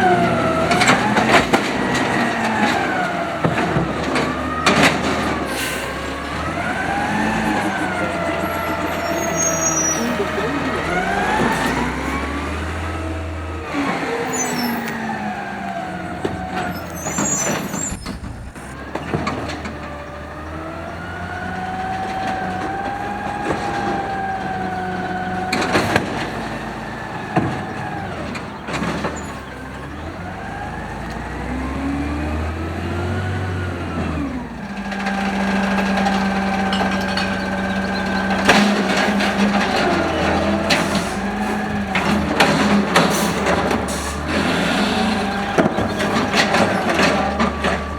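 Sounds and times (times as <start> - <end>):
garbage truck engine revving: 0.0 - 47.9.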